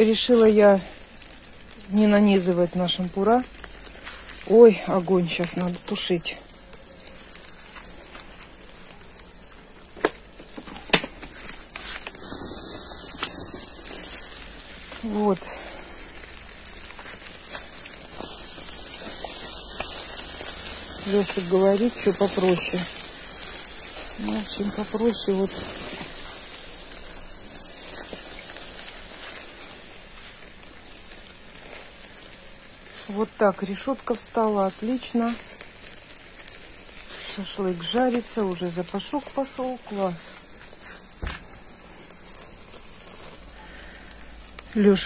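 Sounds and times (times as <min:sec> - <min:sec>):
charcoal popping: 0:00.0 - 0:45.0
chicken sizzling on grill: 0:00.0 - 0:45.0
faint crackles: 0:00.0 - 0:45.0.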